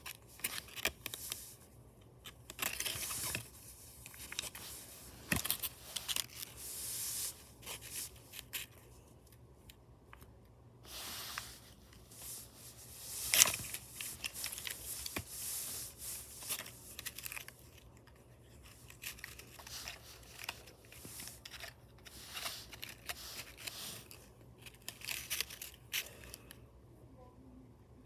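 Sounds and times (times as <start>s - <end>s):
rustling and crinkling: 0.0s - 26.6s
low steady hum: 0.0s - 28.0s.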